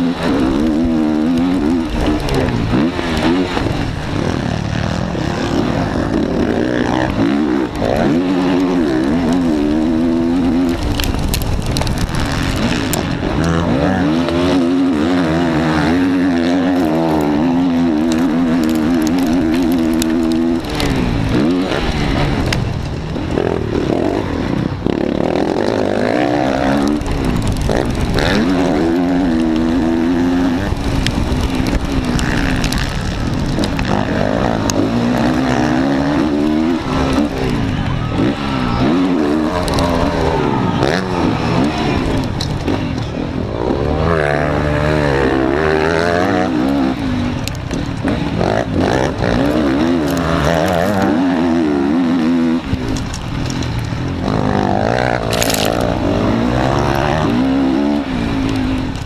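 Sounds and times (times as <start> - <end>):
motocross bike engine revving: 0.0 - 59.0
wind noise: 0.0 - 59.0.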